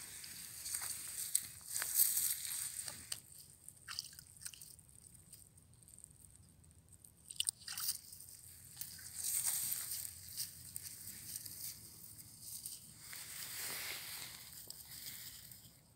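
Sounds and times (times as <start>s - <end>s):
soft rustling and crunching: 0.0s - 15.9s.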